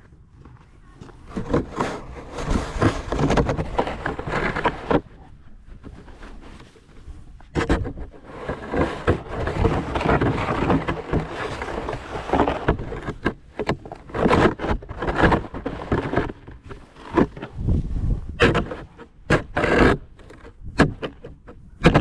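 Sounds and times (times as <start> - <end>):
snow shovel scraping snow: 1.2 - 5.1, 5.8 - 21.0.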